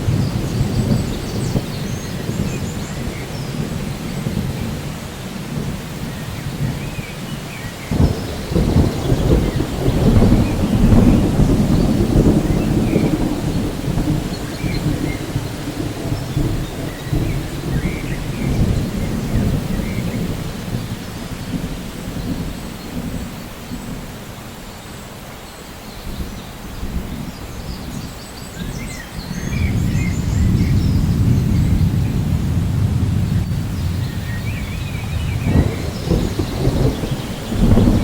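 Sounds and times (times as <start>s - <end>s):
low rolling thunder: 0.0s - 24.4s, 26.1s - 38.0s
steady rain: 0.0s - 38.0s.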